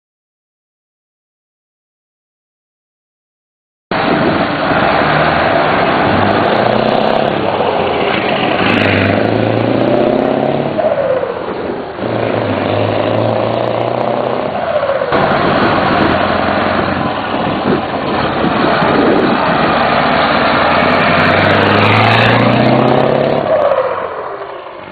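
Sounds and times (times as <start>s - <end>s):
diesel truck engine accelerating: 3.9s - 24.9s.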